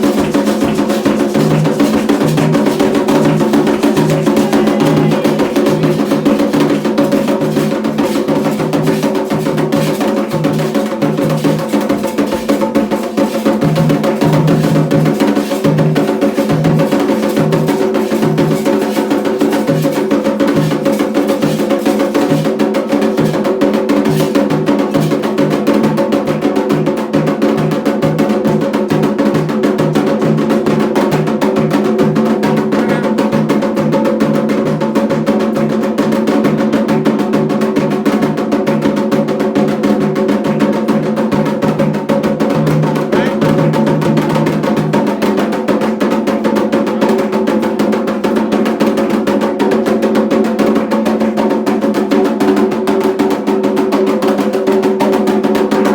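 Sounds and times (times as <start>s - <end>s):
hand drumming: 0.0s - 55.9s.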